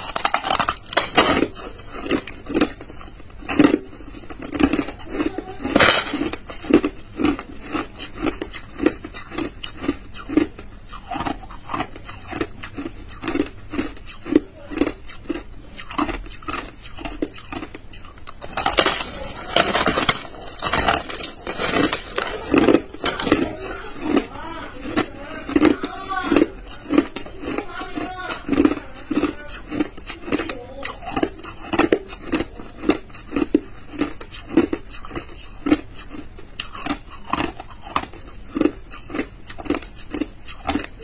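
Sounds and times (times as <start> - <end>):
ice crunching between teeth: 0.0 - 41.0.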